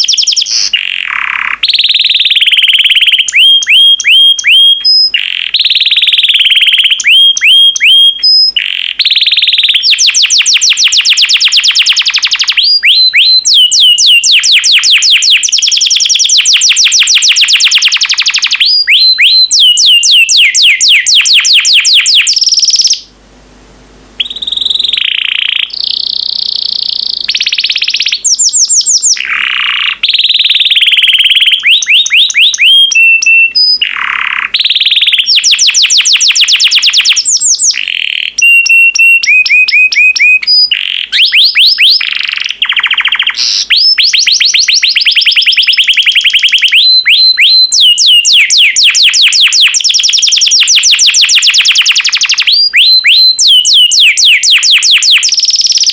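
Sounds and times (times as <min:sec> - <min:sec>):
canary singing fast trills: 0:00.0 - 0:23.1, 0:24.2 - 0:55.9.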